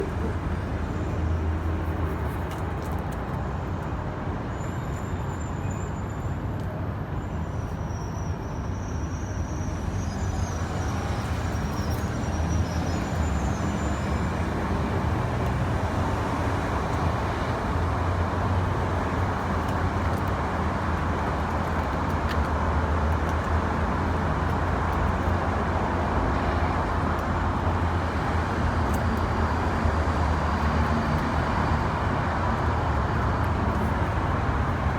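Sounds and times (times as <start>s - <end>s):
road traffic rumble: 0.0s - 34.9s.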